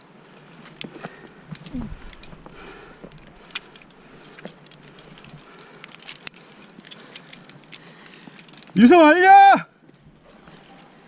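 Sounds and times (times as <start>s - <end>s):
metal carabiners and chain clinking: 0.2s - 8.8s, 10.1s - 11.0s.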